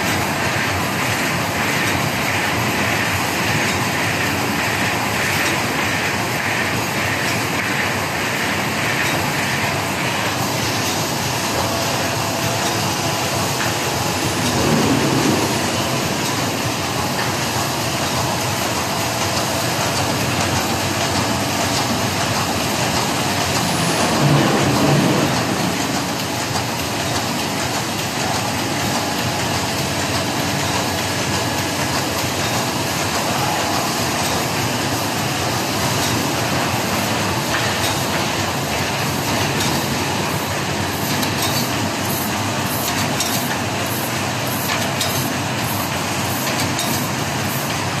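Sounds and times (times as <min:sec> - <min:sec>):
laminating machine running: 0:00.0 - 0:48.0.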